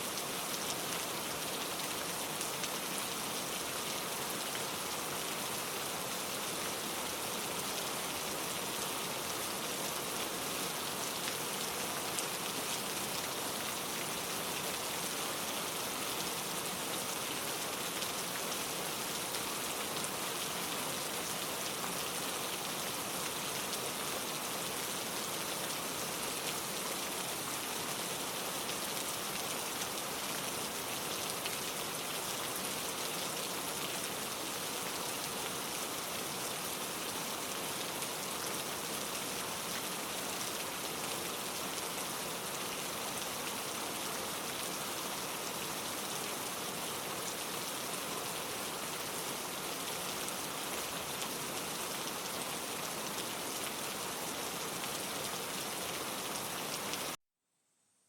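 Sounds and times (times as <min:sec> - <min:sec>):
steady rain falling: 0:00.0 - 0:57.2.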